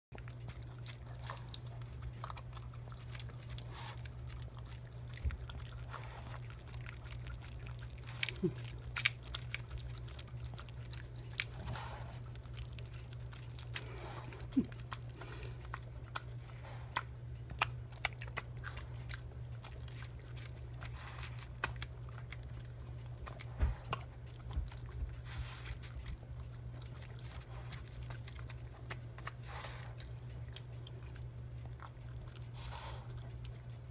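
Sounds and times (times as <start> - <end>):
dog chewing wet food: 0.1 - 33.9
steady low hum: 0.1 - 33.9.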